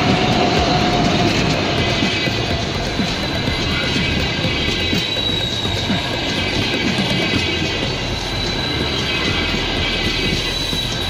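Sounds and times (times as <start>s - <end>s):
high-pitched train whine: 0.0s - 11.0s
train rumbling over rails: 0.0s - 11.0s.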